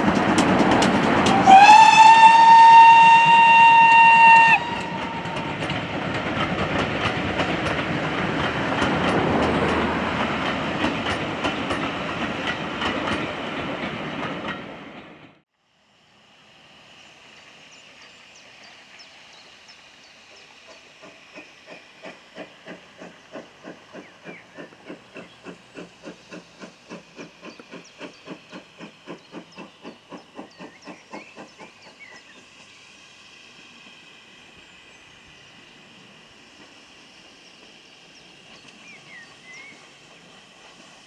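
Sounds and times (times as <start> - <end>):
steam hissing: 0.0 - 14.4, 15.7 - 41.0
steam locomotive exhaust beats: 0.0 - 14.7, 15.9 - 41.0.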